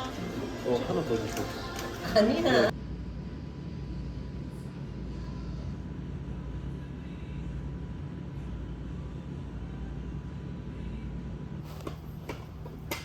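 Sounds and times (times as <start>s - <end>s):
low vehicle rumble: 1.6s - 13.0s.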